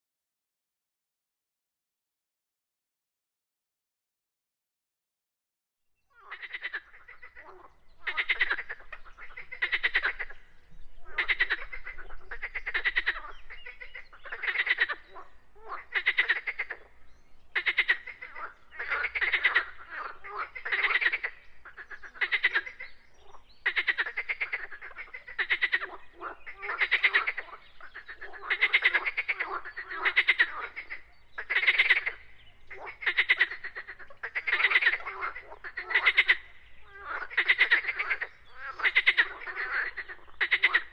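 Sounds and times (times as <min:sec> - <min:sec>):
frogs croaking in a chorus: 0:06.1 - 0:40.9.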